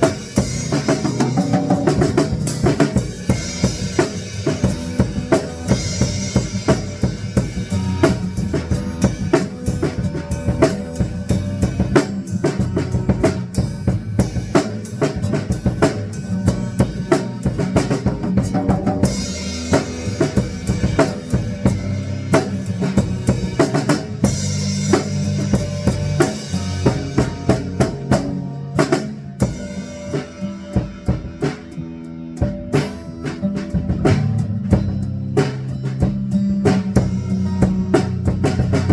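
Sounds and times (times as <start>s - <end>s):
bass line: 0.0s - 38.9s
live band jamming: 0.0s - 38.9s.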